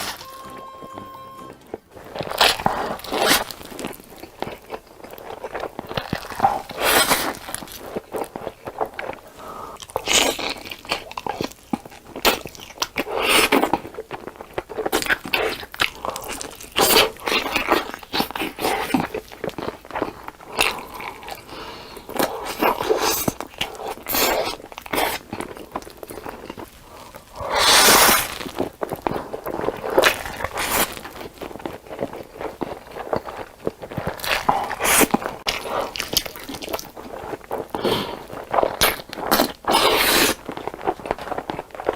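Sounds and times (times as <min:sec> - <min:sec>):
person chewing crunchy food: 0:02.0 - 0:41.9.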